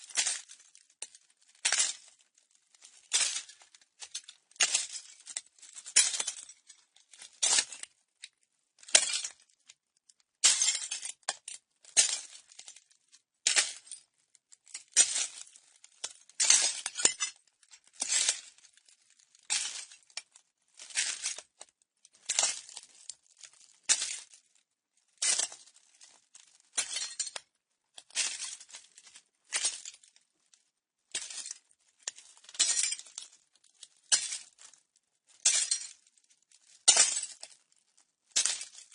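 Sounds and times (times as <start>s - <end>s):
footsteps on broken glass: 0.0s - 7.9s, 8.8s - 9.5s, 10.4s - 12.8s, 13.4s - 14.0s, 15.0s - 24.4s, 25.2s - 30.2s, 31.1s - 34.8s, 35.4s - 37.6s, 38.3s - 38.9s.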